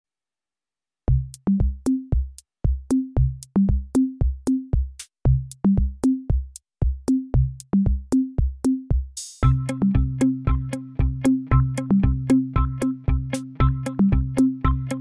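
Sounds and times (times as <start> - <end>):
drum-machine beat: 1.1 - 15.0.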